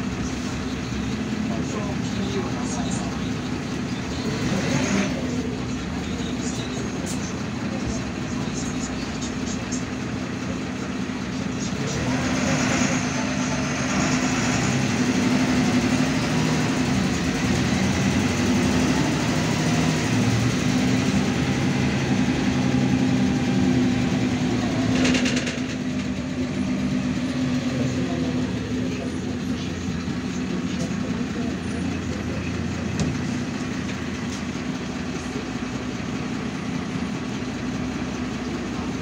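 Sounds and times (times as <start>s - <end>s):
bus diesel engine running: 0.0s - 39.0s
road noise: 0.0s - 39.0s.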